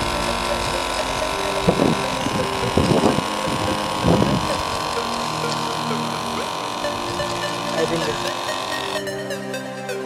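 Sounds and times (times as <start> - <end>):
water pump motor whining: 0.0 - 9.5.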